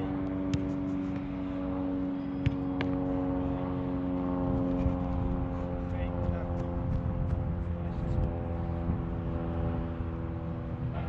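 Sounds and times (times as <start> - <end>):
mechanical engine-like drone: 0.0 - 11.0.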